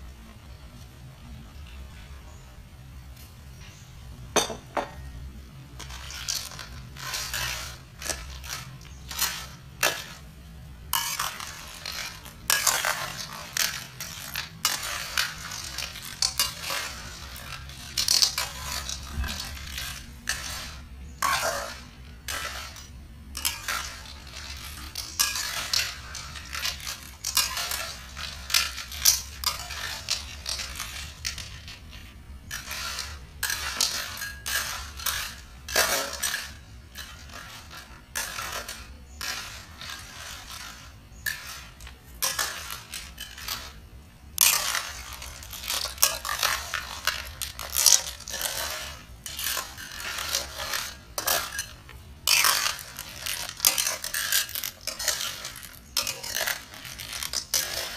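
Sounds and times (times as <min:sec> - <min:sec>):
small hard objects clattering: 0:03.2 - 0:57.9.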